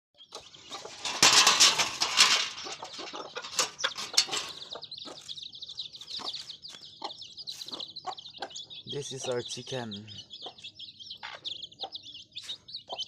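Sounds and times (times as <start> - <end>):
chickens clucking: 0.2 - 13.0.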